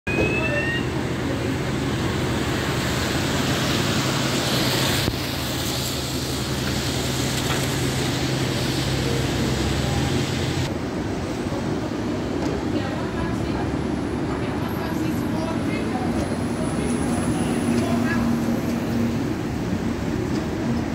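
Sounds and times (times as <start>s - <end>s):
bus engine running: 0.1s - 20.9s.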